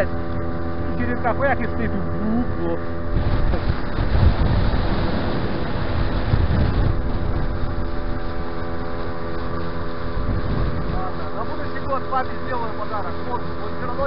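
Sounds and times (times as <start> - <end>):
outboard motor running: 0.0 - 14.0
water rushing past hull: 0.0 - 14.0
wind buffeting microphone: 0.0 - 14.0.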